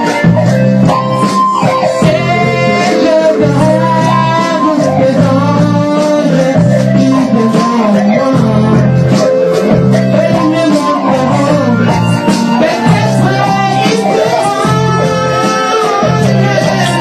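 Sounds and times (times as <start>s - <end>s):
band music: 0.0s - 17.0s
bass line: 0.0s - 17.0s
guitar: 0.0s - 17.0s
percussion beat: 0.0s - 17.0s.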